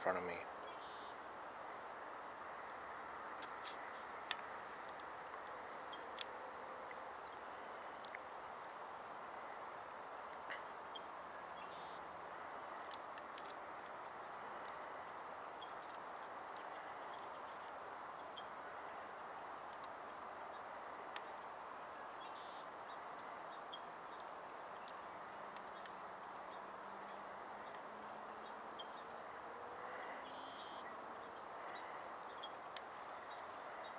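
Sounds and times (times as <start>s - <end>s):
background hiss: 0.0s - 33.9s
outdoor background noise: 0.0s - 33.9s.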